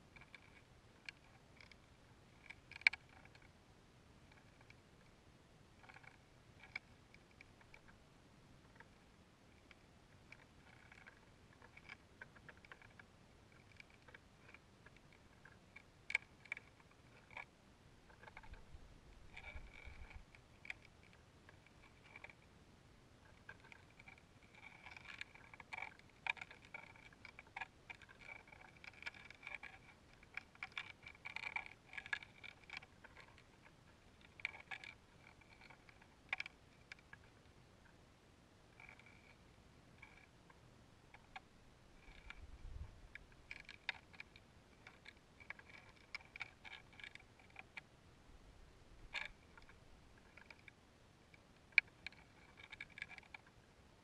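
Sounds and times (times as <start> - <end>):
faint clicks and creaks: 0.0 - 54.0.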